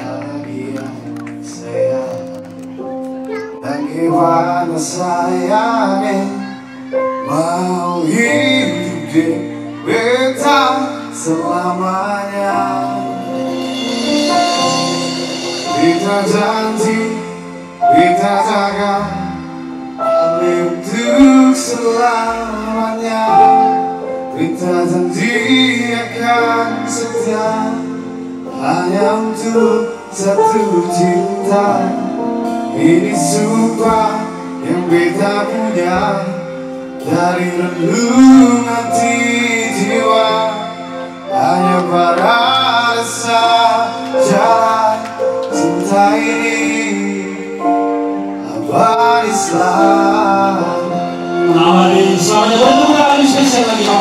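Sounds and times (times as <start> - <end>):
song with singer: 0.0 - 54.0.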